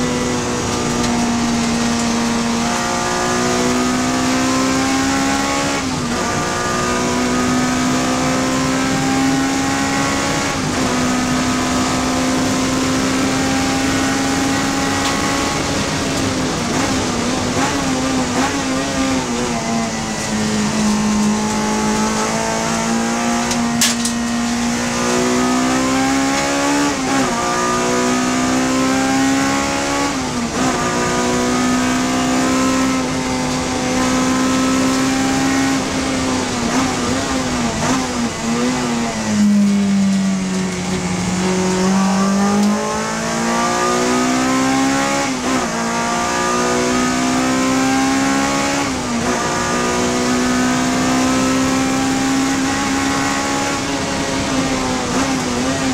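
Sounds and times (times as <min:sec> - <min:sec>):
race car engine at high revs: 0:00.0 - 0:55.9.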